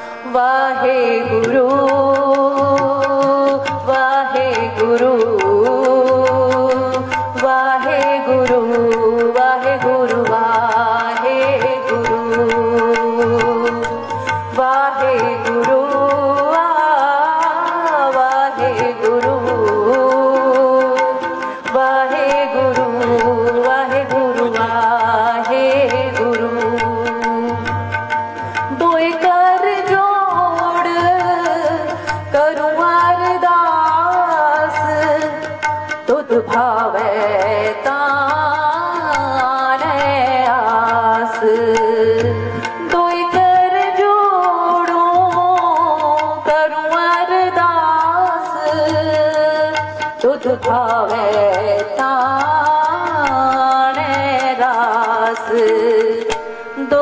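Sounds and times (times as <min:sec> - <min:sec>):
harmonium tones: 0:00.0 - 0:57.0
tabla fast steady beat: 0:00.0 - 0:57.0
woman singing into a microphone: 0:00.0 - 0:57.0.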